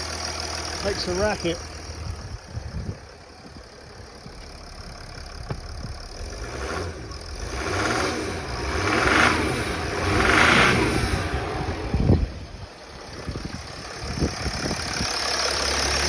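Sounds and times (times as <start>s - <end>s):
diesel engine idling and revving: 0.0s - 16.0s.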